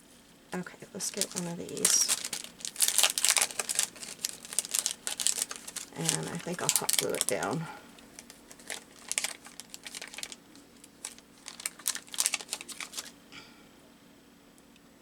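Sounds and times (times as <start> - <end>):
faint steady hum: 0.0 - 15.0
paper and craft pieces handled: 0.8 - 13.2.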